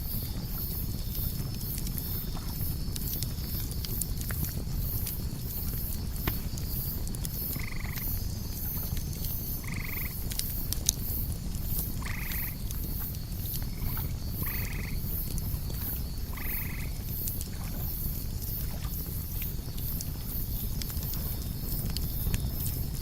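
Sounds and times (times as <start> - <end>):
campfire crackling and popping: 0.0 - 23.0
crickets chirping: 0.0 - 23.0.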